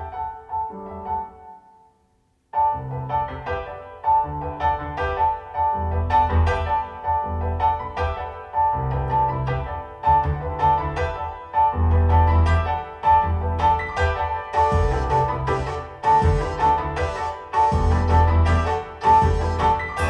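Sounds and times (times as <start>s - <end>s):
piano music over loudspeakers: 0.0s - 20.0s.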